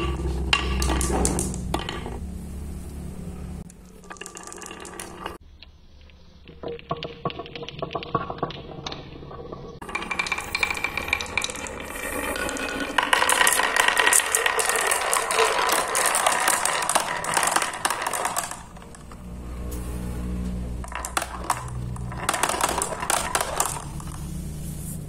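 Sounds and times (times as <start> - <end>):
marbles clicking and rolling in wood: 0.0 - 2.2, 3.6 - 24.7.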